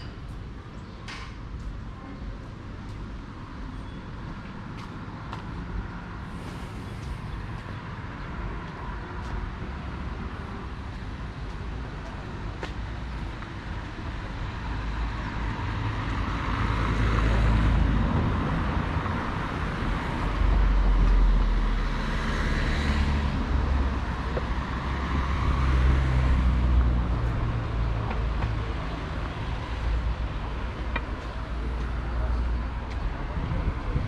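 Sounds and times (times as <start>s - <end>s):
road traffic roar: 0.0s - 34.0s.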